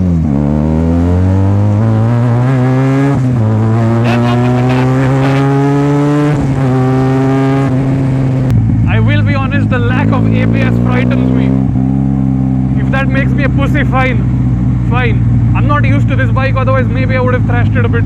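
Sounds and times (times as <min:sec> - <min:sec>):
motorcycle engine revving through gears: 0:00.0 - 0:18.0.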